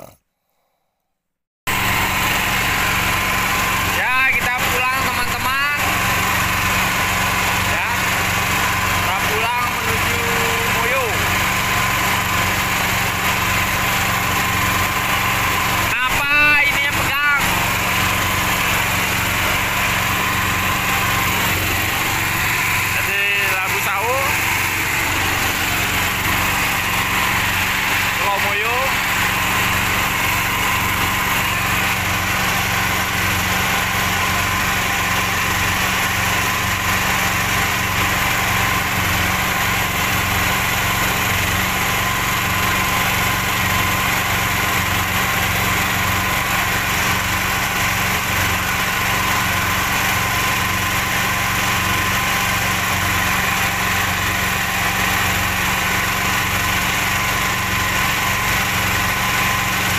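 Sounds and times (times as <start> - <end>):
boat engine running: 1.7 - 59.9.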